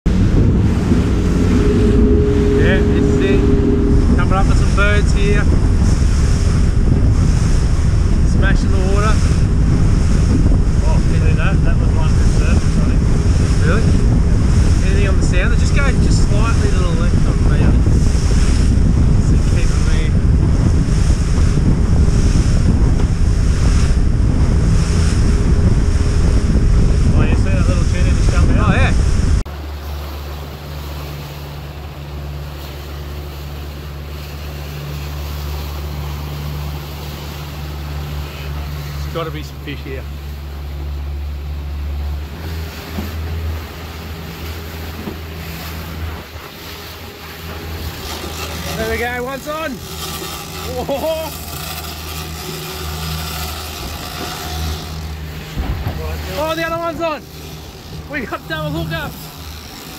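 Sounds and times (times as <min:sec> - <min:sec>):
wind buffeting microphone: 0:00.0 - 0:29.5, 0:33.0 - 0:59.9
boat engine humming: 0:00.0 - 0:59.9
outboard motor: 0:00.0 - 0:59.9
water rushing past hull: 0:00.0 - 0:59.9.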